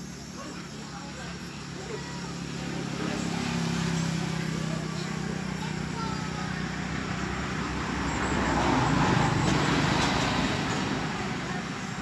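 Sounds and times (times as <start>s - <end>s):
passing vehicle rushing: 1.3s - 12.0s.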